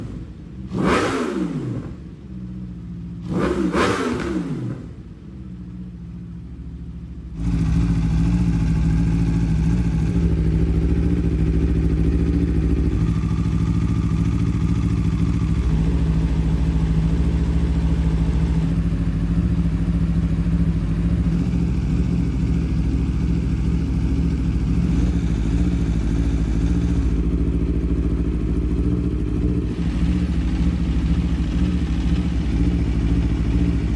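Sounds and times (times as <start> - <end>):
motorcycle engine revving: 0.0 - 6.2, 7.3 - 33.9.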